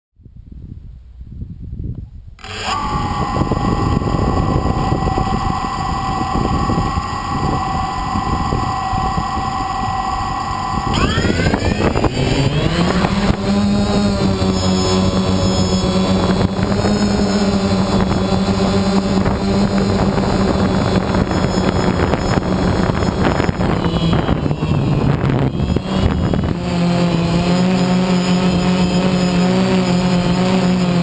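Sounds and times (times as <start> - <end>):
drone propellers whirring: 2.4 - 31.0.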